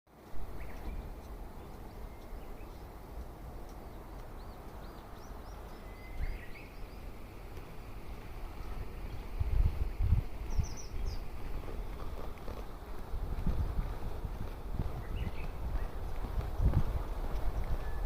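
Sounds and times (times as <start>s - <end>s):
small birds chirping: 0.2s - 13.2s, 14.3s - 18.0s.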